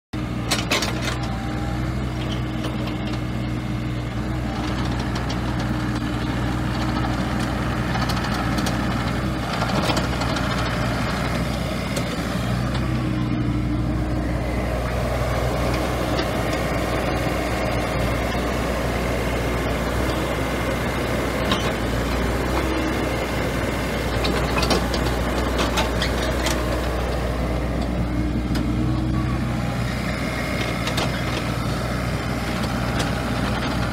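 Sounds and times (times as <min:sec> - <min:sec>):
excavator diesel engine running: 0:00.2 - 0:33.9.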